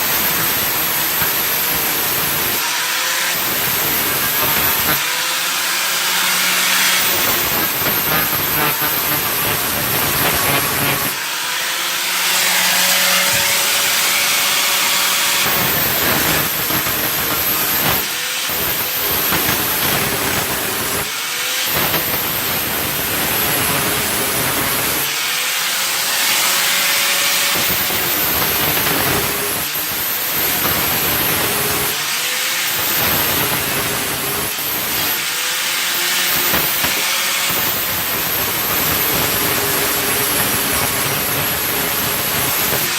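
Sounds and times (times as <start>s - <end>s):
power tool hissing: 0.0s - 42.9s.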